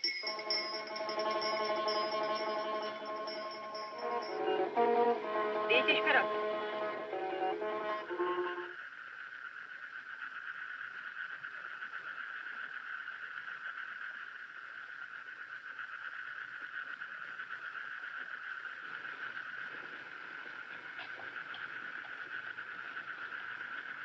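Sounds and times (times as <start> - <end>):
night creatures trilling: 0.0 - 5.3, 8.9 - 24.0.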